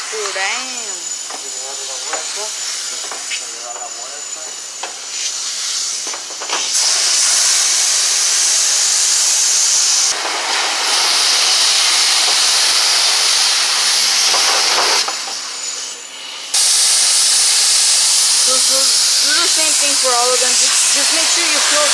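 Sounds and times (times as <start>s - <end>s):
pressure washer spraying water: 0.0s - 21.9s.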